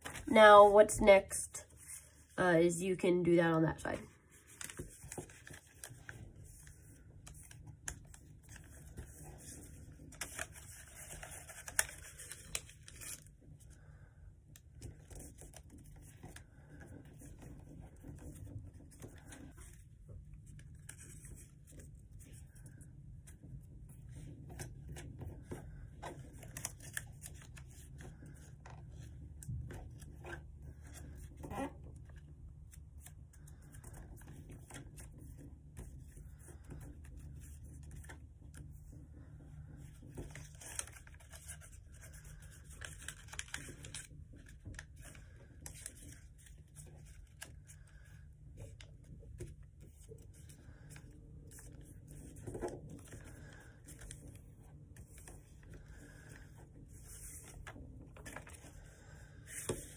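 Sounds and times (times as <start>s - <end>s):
paper rustling and crackling: 0.0s - 0.4s, 4.2s - 13.9s, 14.5s - 59.9s.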